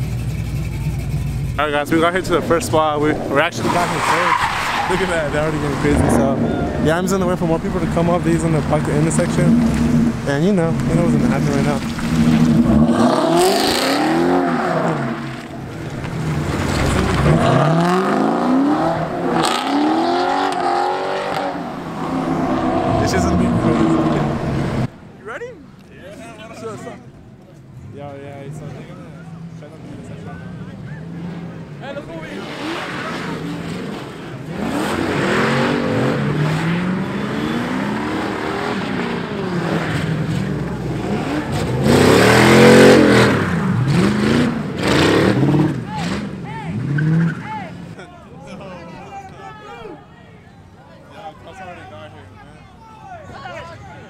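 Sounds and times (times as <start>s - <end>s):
car engine revving: 0.0s - 25.0s, 28.4s - 48.0s.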